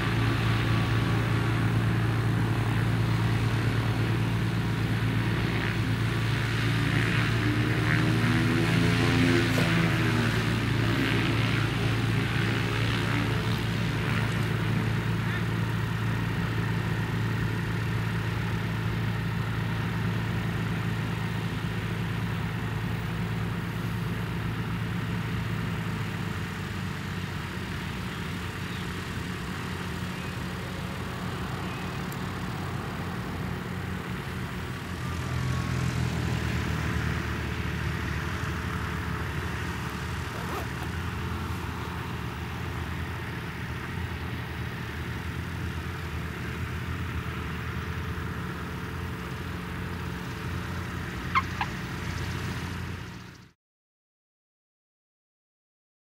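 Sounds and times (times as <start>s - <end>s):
propeller plane engine droning: 0.0s - 53.6s.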